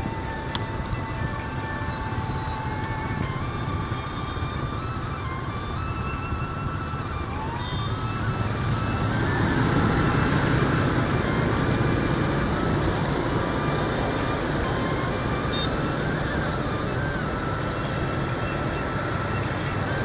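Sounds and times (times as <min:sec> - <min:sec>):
scooters and motorbikes pulling away: 0:00.0 - 0:20.0
thin background melody: 0:00.0 - 0:20.0.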